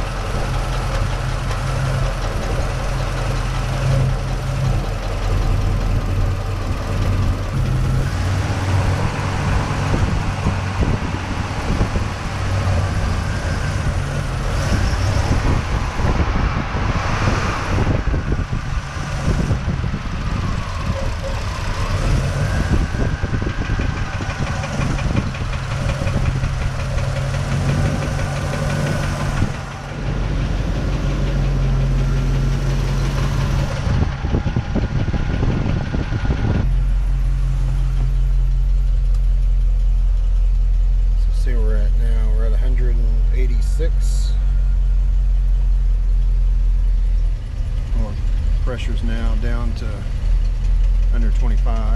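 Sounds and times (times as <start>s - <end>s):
engine idling: 0.0s - 51.9s
engine ticking and knocking: 0.0s - 51.9s.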